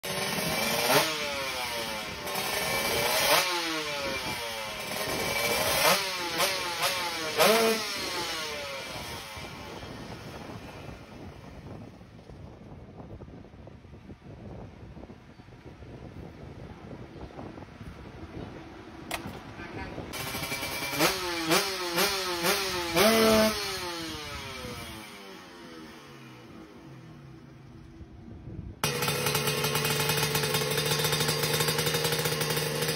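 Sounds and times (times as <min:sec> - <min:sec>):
motorcycle engine throttle blips: 0:00.1 - 0:32.9.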